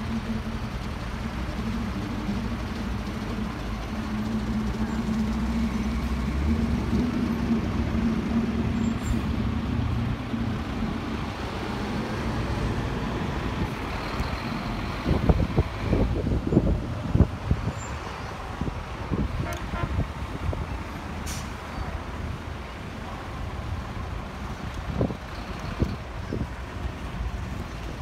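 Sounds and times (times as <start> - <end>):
fire truck diesel engines droning: 0.0 - 28.0.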